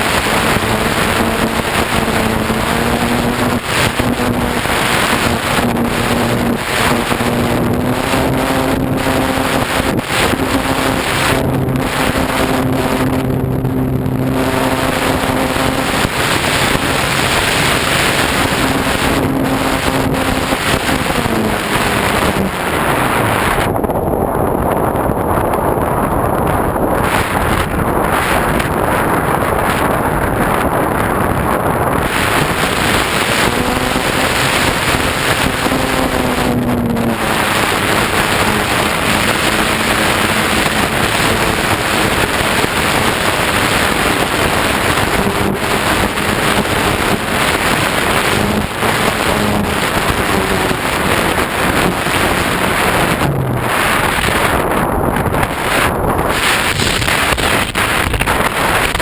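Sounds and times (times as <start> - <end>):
heavy wind rush: 0.0 - 59.0.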